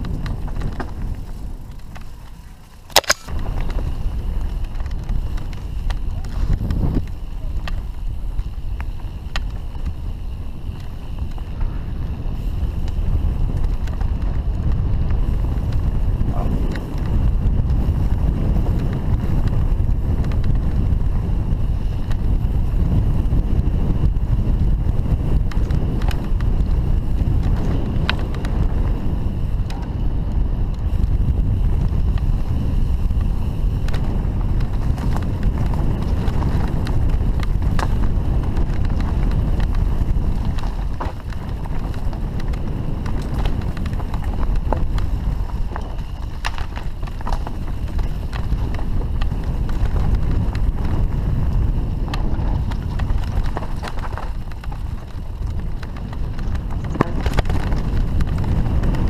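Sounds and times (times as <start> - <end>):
bike clicking and rattling: 0.0 - 59.0
tyres rumbling on dirt: 0.0 - 59.0
wind buffeting microphone: 0.0 - 59.0.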